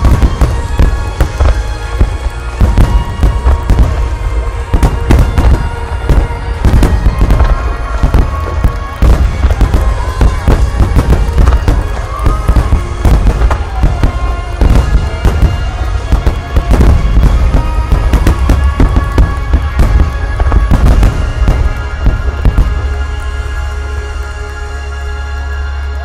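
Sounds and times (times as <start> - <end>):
fireworks booming and cracking: 0.0 - 25.4
music playing: 0.0 - 26.0.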